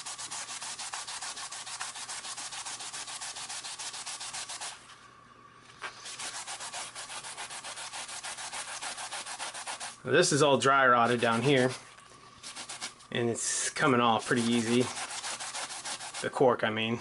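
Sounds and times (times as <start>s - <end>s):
wet sponge scrubbing cork grip: 0.0s - 4.8s, 5.8s - 10.0s, 11.0s - 16.4s.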